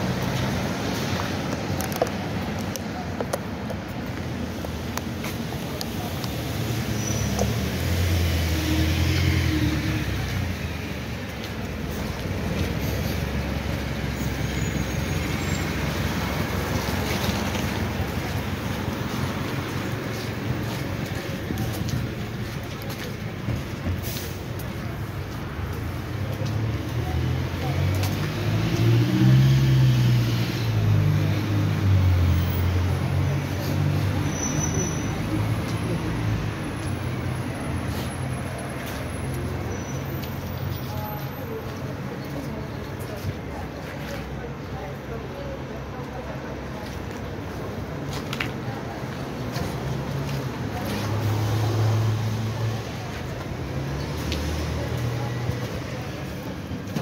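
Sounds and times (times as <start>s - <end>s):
road noise: 0.0s - 57.0s
traffic engine hum: 0.0s - 57.0s.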